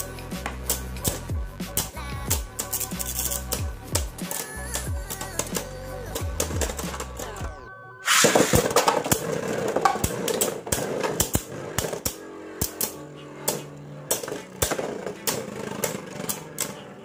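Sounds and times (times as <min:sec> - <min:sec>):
spinning tops clacking: 0:00.4 - 0:07.4, 0:08.1 - 0:17.0.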